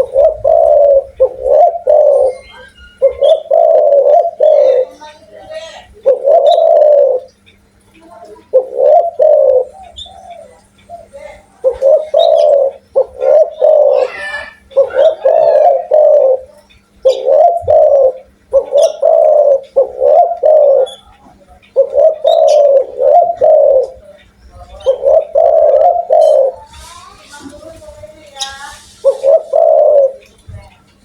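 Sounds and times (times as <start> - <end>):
dove cooing: 0.0 - 30.4.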